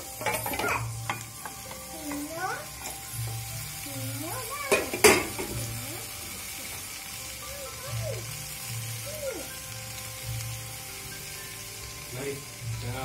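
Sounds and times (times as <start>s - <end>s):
faint background melody: 0.0s - 13.0s
leaves sizzling in frying pan: 0.0s - 13.0s.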